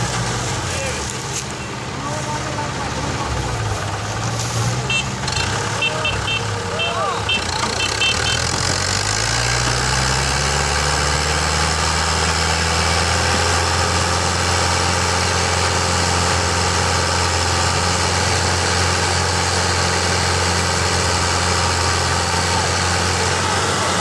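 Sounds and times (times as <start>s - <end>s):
tractor diesel engines running: 0.0s - 24.0s.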